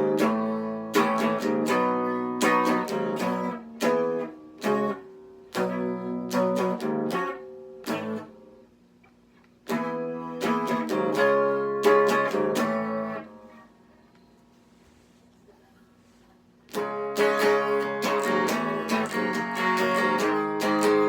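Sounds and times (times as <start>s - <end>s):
electric guitar chords ringing: 0.0s - 8.7s, 9.6s - 13.8s, 16.7s - 21.0s.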